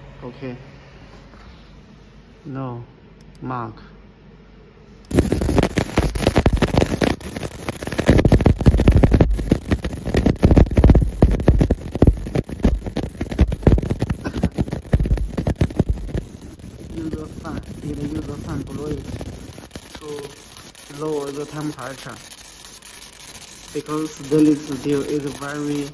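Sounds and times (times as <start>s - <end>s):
laser crackling on metal: 5.1s - 25.9s.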